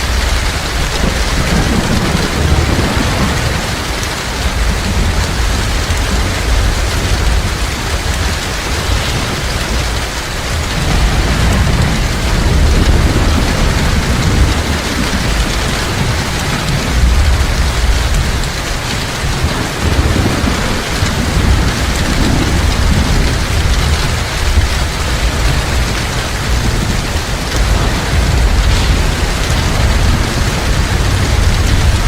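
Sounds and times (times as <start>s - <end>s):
heavy rain falling: 0.0s - 32.0s
thunder rumbling: 0.0s - 32.0s.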